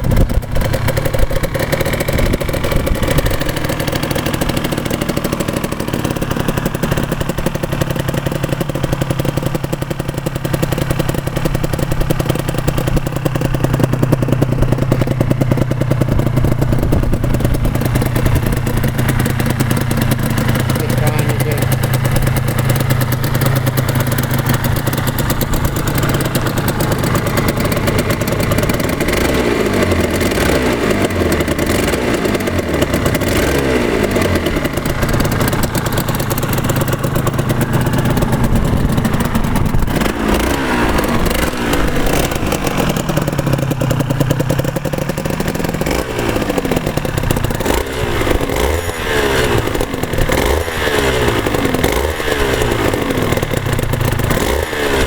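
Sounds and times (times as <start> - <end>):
two-stroke engine idling and revving: 0.0 - 55.0.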